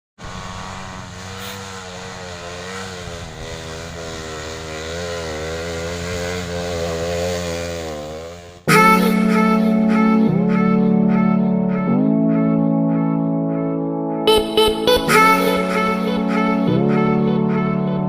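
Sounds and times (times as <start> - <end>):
motorcycle engine revving: 0.2 - 11.9, 14.3 - 18.0.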